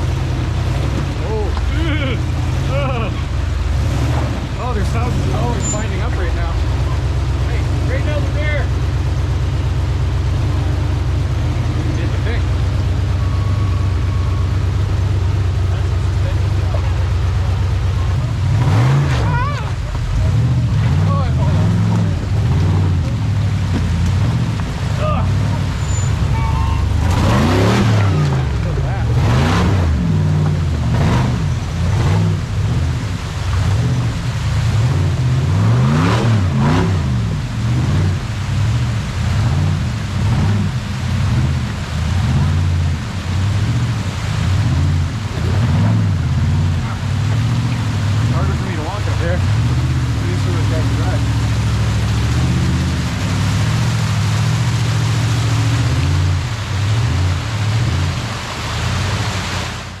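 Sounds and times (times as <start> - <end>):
buggy engine revving: 0.0 - 60.0.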